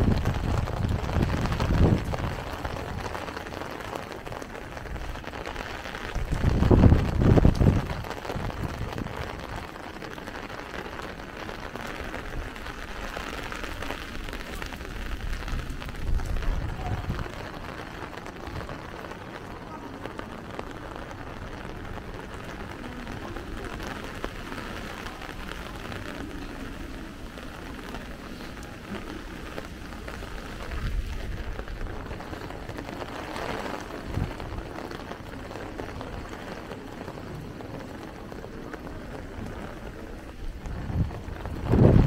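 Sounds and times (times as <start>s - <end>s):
rain hissing on street: 0.0s - 42.0s.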